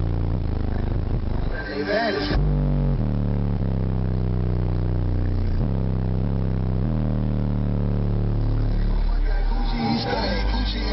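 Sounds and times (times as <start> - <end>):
deep subwoofer bass notes: 0.0 - 10.9.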